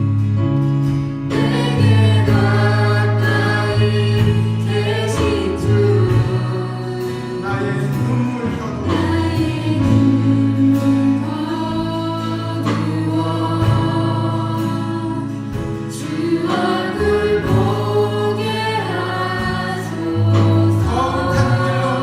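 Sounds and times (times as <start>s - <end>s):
band with bass line: 0.0s - 22.0s
group singing worship song: 0.0s - 22.0s.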